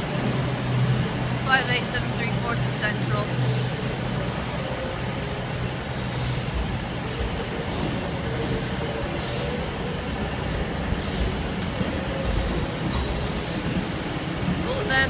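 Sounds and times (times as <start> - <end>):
train engine hum: 0.0 - 15.0.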